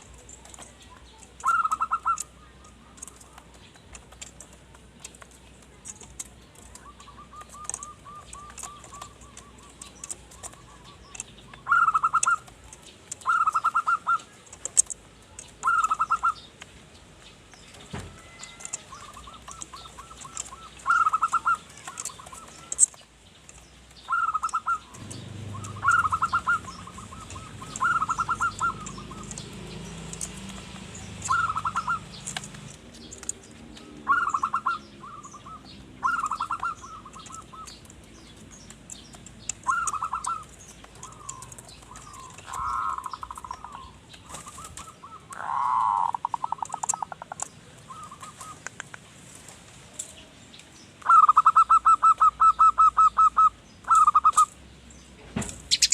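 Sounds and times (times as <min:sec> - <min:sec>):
dove cooing: 0:00.0 - 0:03.9, 0:05.8 - 0:14.9, 0:15.5 - 0:16.5, 0:18.0 - 0:22.9, 0:24.0 - 0:48.8, 0:51.0 - 0:54.5
small birds chirping: 0:00.0 - 0:55.9.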